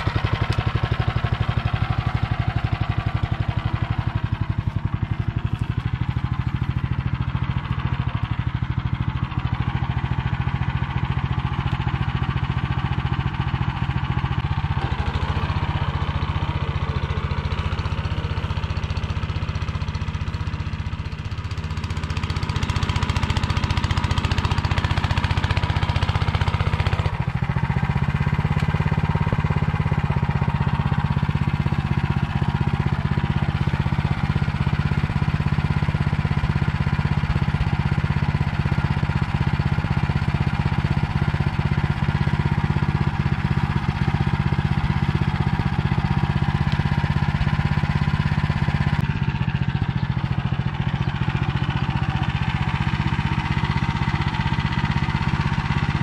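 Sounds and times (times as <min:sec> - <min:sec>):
walk-behind tractor engine running: 0:00.0 - 0:56.0.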